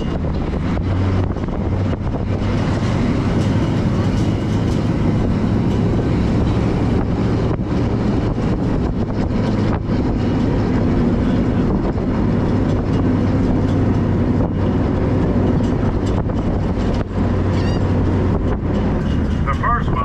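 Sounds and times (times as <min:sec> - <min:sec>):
road and air noise: 0:00.0 - 0:20.0
vehicle engine running: 0:00.0 - 0:20.0.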